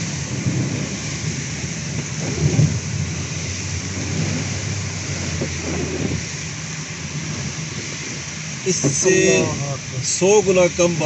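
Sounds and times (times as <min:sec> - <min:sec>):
low rumble: 0:00.0 - 0:10.1
heavy rain on car roof: 0:00.0 - 0:11.0.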